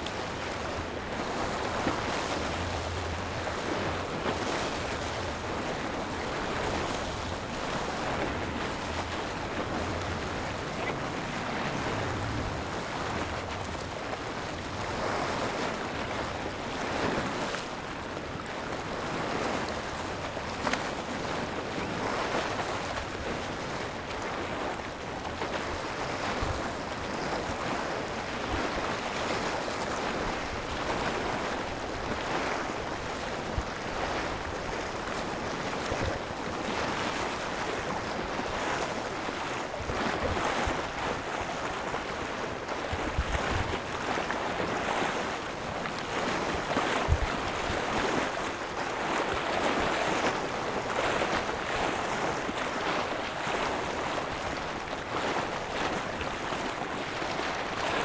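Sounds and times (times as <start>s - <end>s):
waves washing on shore: 0.0s - 58.0s
wind: 0.0s - 58.0s.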